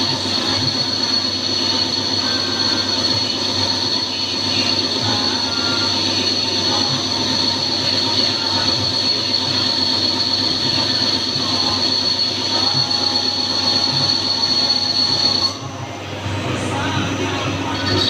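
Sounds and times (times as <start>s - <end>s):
lathe running with whine: 0.0s - 18.0s.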